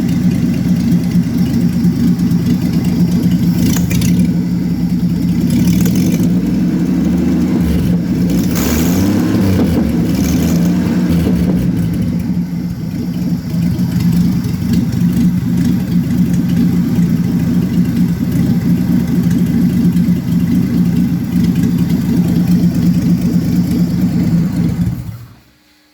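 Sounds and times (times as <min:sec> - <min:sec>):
car engine idling roughly: 0:00.0 - 0:25.7.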